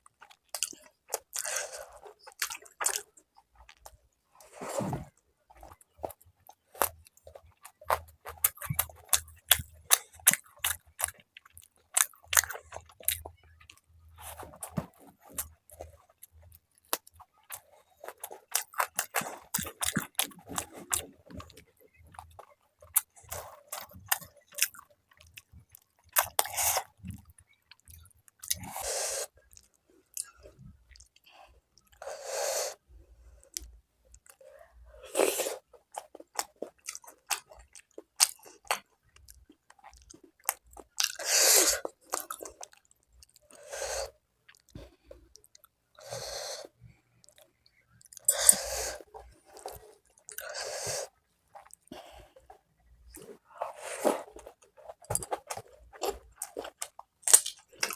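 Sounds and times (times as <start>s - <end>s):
chewing with wet mouth clicks: 0.0s - 4.0s, 5.5s - 28.8s, 29.4s - 32.0s, 35.6s - 43.6s, 44.5s - 46.0s, 47.2s - 50.5s, 51.1s - 51.9s, 54.2s - 57.9s.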